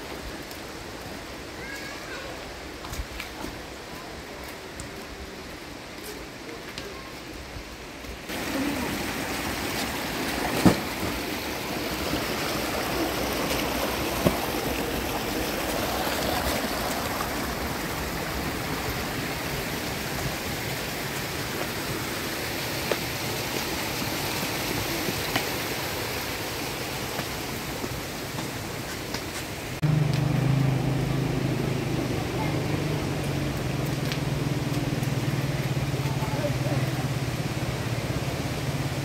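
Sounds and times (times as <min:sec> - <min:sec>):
running water: 0:00.0 - 0:39.0.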